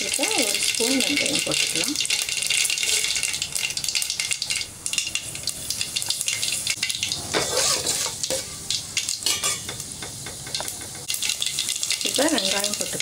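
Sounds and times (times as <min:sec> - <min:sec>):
ladle stirring in pot: 0:00.0 - 0:13.0
seeds sizzling in hot oil: 0:00.0 - 0:13.0.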